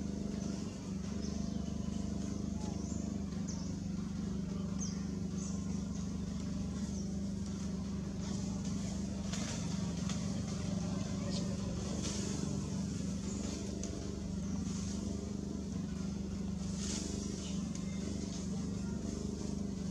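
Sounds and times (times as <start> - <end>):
low engine drone: 0.0 - 19.9.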